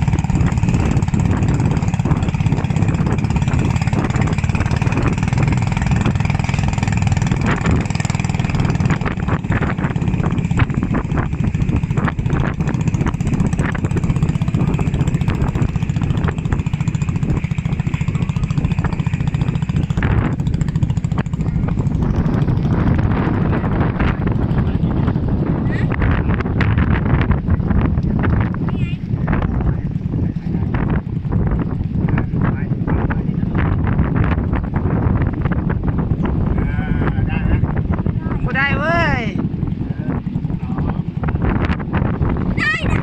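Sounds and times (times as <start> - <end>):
motorboat engine droning: 0.0 - 43.0.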